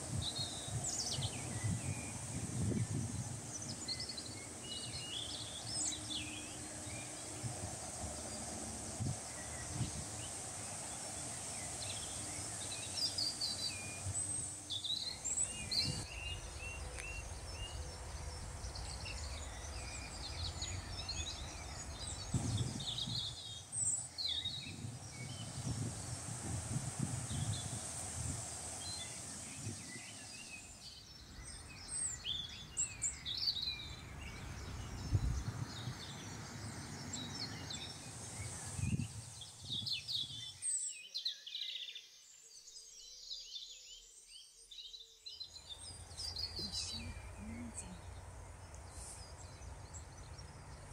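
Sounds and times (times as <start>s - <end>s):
small birds chirping and trilling: 0.0s - 50.9s.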